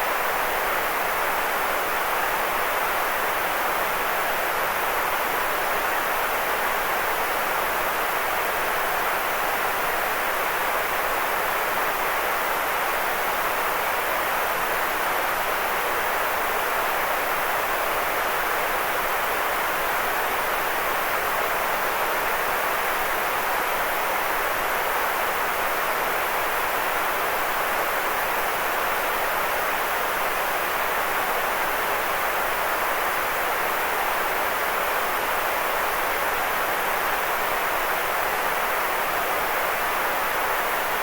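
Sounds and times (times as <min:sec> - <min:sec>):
steady white noise: 0:00.0 - 0:41.0.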